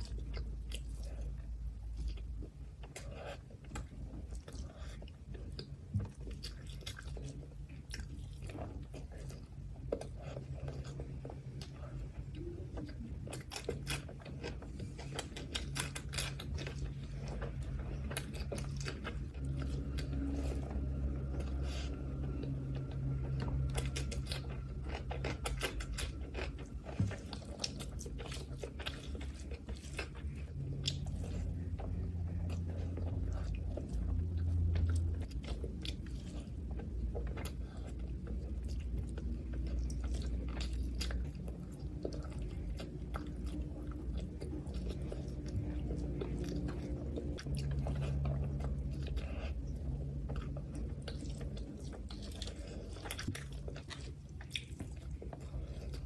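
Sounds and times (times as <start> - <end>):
steady low hum: 0.0 - 56.0
wet chewing sounds: 0.0 - 56.0.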